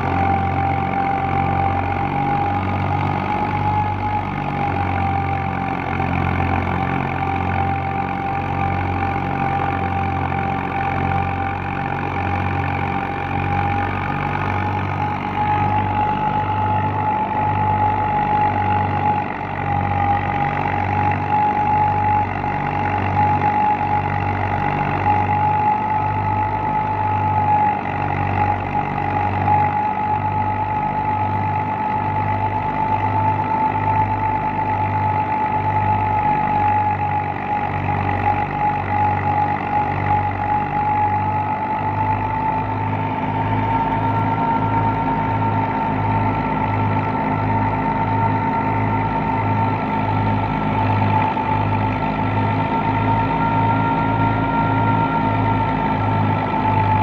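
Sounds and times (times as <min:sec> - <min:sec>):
diesel tractor engine throbbing: 0:00.0 - 0:57.0
thresher whine: 0:00.0 - 0:57.0.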